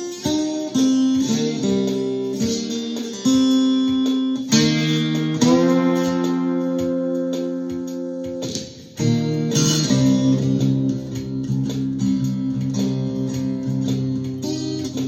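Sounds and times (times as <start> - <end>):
guitar chords ringing: 0.0 - 15.0
picked guitar notes: 0.0 - 15.0.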